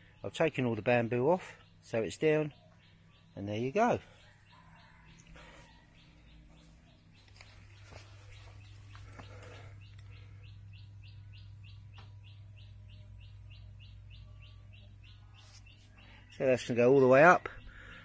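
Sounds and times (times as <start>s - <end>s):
bird chirping: 0.0s - 18.0s
steady low hum: 0.0s - 18.0s.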